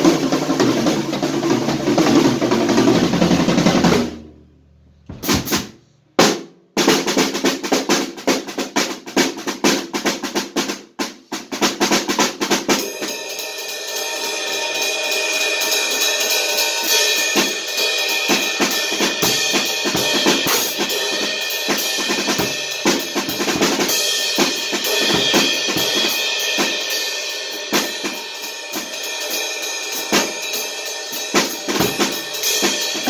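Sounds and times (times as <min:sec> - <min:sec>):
drum kit playing: 0:00.0 - 0:04.4, 0:05.0 - 0:33.0.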